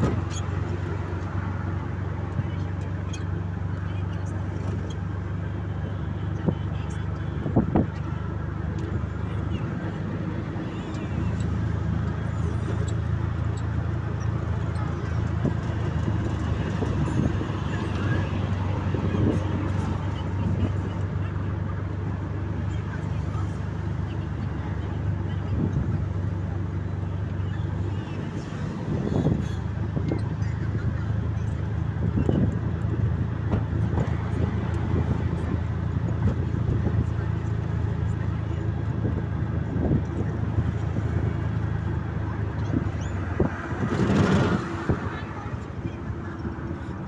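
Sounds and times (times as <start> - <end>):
road noise: 0.0 - 47.0
vehicle engine rumble: 0.0 - 47.0.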